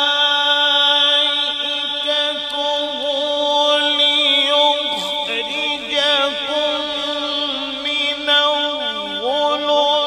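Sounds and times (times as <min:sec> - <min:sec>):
man chanting into a microphone: 0:00.0 - 0:10.0.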